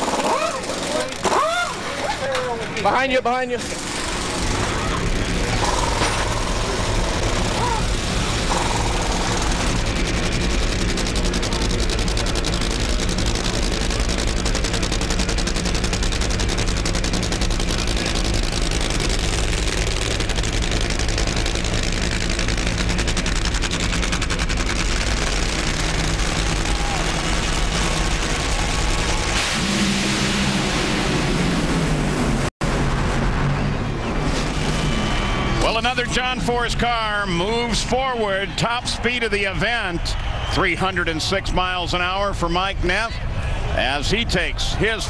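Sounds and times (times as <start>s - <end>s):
supercharged engines crackling: 0.0s - 42.2s.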